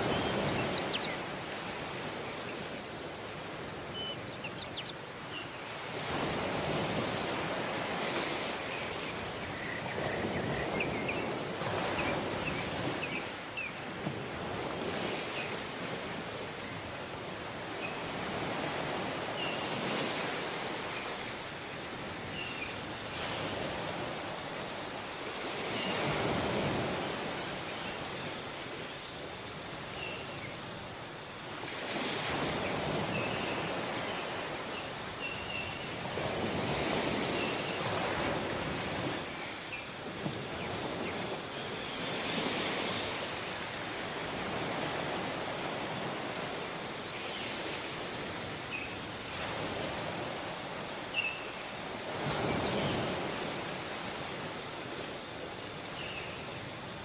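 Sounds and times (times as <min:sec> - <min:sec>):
waves washing up a beach: 0:00.0 - 0:57.0.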